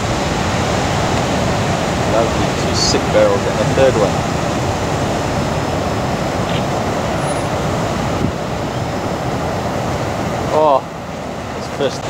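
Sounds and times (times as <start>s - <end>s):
ocean waves crashing: 0.0s - 12.0s.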